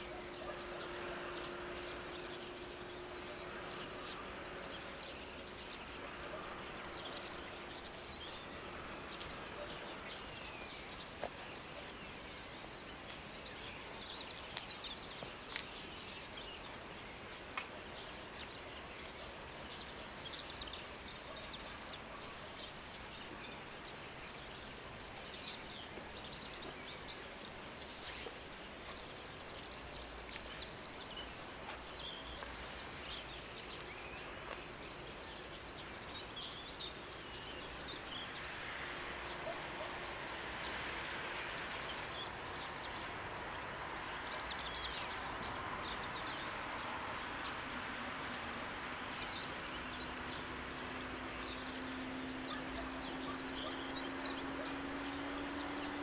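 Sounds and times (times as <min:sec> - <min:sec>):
outdoor background hiss: 0:00.0 - 0:56.0
small birds chirping: 0:00.0 - 0:56.0.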